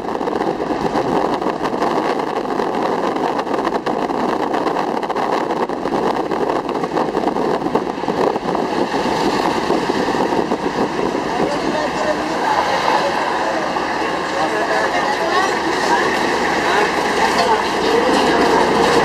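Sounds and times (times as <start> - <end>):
road noise: 0.0 - 19.0
vehicle engine rumbling: 0.0 - 19.0.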